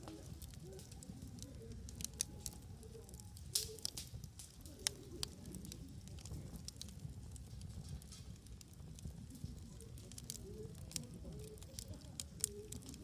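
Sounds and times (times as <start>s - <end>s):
campfire crackling: 0.0s - 13.0s
fire popping: 0.0s - 13.0s.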